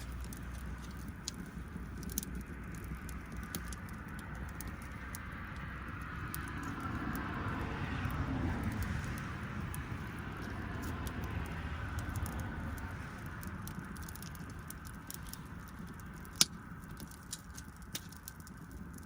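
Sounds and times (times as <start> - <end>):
bonfire crackling: 0.0 - 19.0
rush of burning: 0.0 - 19.0.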